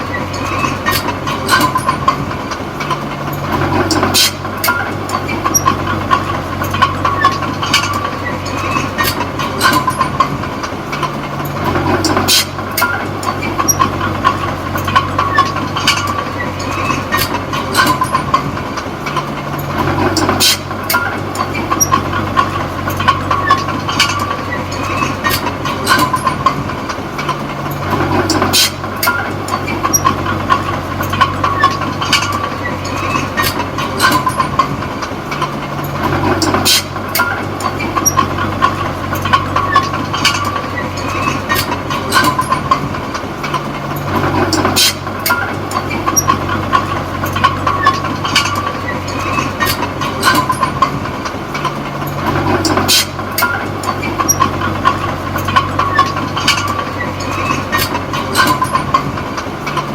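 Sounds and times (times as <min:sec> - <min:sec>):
bulldozer diesel engine: 0:00.0 - 0:59.9
steel tracks clanking: 0:00.0 - 0:59.9.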